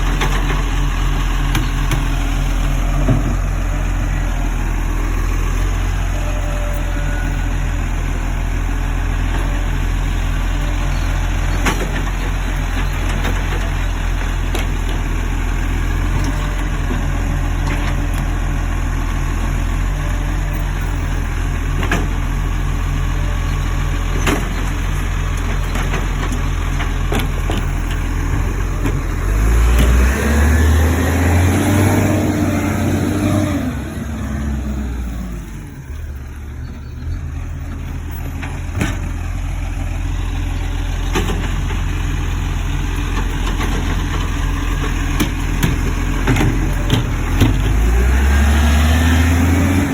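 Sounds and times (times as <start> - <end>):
garbage truck engine idling: 0.0 - 48.2.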